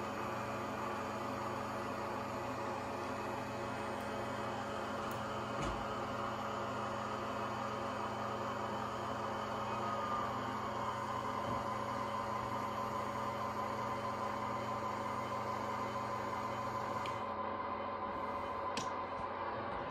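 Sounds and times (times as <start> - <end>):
model locomotive humming drone: 0.0 - 19.6.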